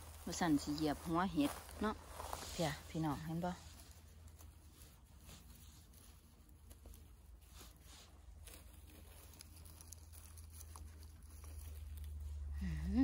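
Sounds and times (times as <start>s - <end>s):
rustling leaf litter: 0.0s - 13.0s.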